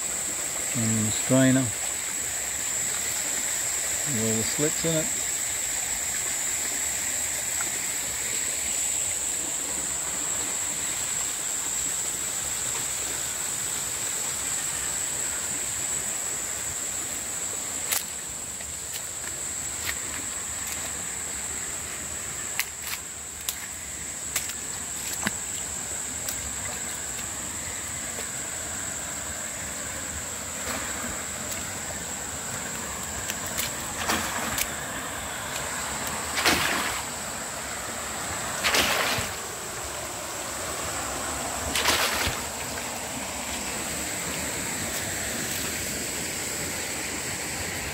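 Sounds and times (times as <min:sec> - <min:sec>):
creek water trickling: 0:00.0 - 0:47.9
high-pitched insect drone: 0:00.0 - 0:47.9.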